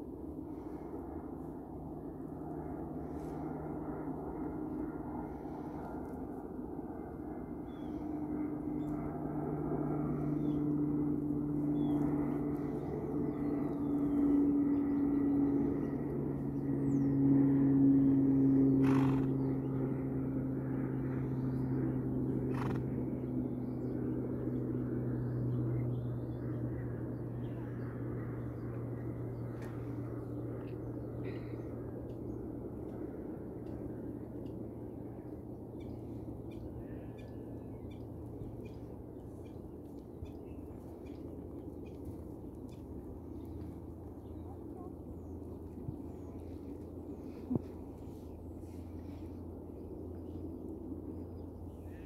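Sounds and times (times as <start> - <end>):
engine drone passing by: 0.0 - 52.0.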